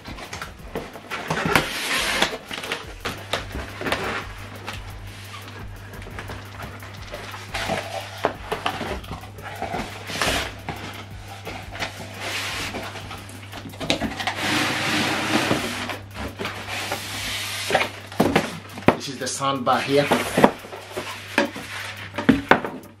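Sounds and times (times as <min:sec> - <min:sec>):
styrofoam and cardboard scraping: 0:00.0 - 0:22.8.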